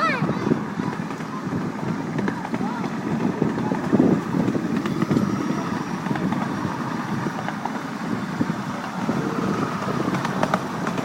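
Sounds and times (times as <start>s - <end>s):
miniature train rattling: 0.0s - 11.0s.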